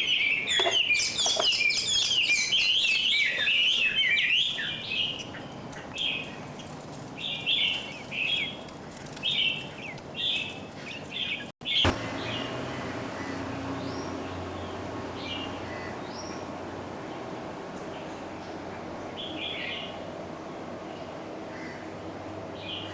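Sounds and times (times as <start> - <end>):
small birds chirping: 0.0 - 21.8
steady background hum: 0.0 - 22.9.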